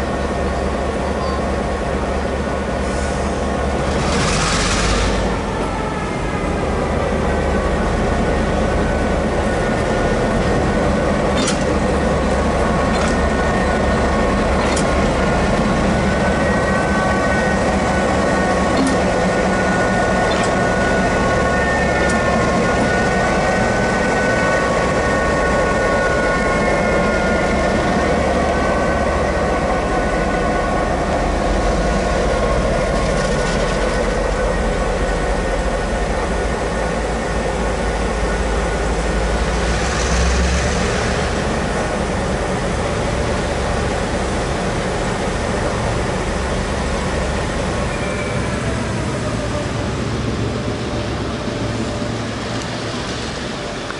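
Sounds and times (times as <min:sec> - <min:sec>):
diesel locomotive engine drone: 0:00.0 - 0:53.9
engine whine: 0:00.0 - 0:53.9.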